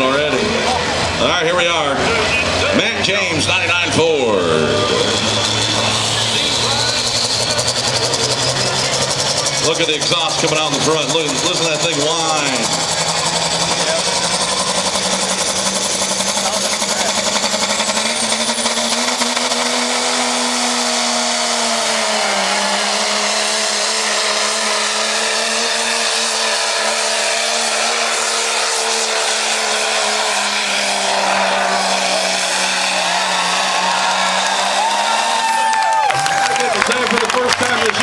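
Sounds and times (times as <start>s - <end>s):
diesel truck engine at high revs: 0.0s - 38.0s.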